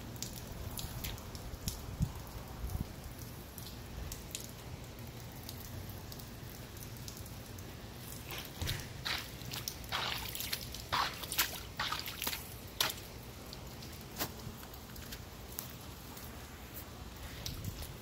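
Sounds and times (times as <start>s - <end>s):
rainwater dripping: 0.0s - 18.0s.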